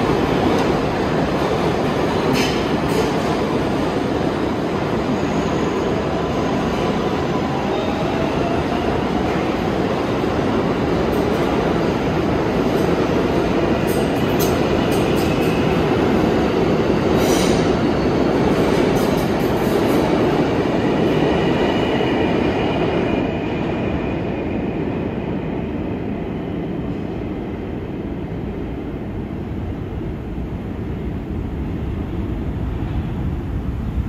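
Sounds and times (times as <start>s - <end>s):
subway train rumble: 0.0s - 34.0s.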